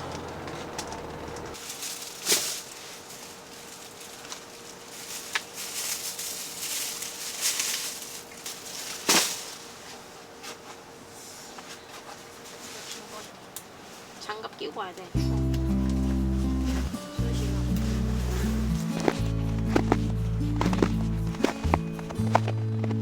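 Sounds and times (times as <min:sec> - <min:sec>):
rustling and scuffing: 0:01.5 - 0:14.2, 0:15.2 - 0:23.0.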